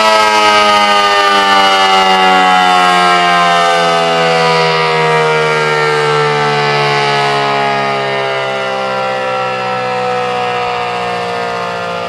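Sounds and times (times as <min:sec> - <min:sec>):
warning siren sliding down: 0:00.0 - 0:12.0.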